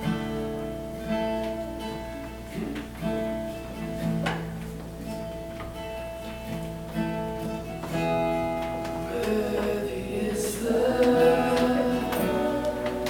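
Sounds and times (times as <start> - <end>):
acoustic guitar strumming: 0.0 - 13.0
steady held notes: 0.0 - 13.0.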